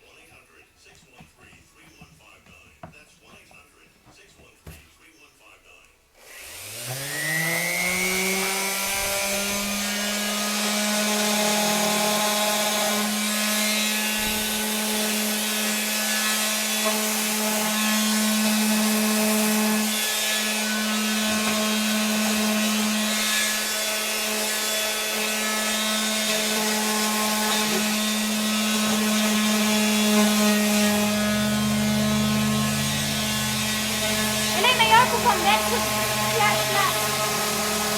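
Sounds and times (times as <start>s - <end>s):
electric sander humming: 6.2s - 37.9s
sander pad scrubbing wood: 6.3s - 37.9s.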